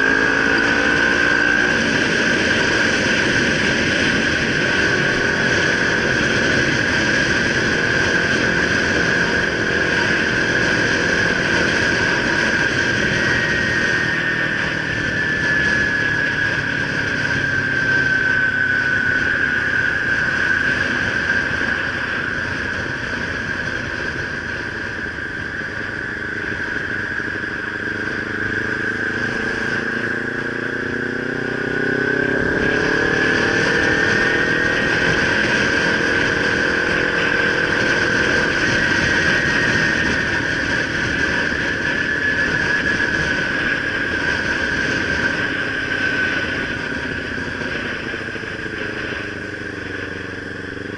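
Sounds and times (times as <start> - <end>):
high steady whine: 0.0 - 50.9
motorcycle engine running: 0.0 - 50.9
road noise: 0.0 - 50.9
rushing wind: 0.0 - 50.9.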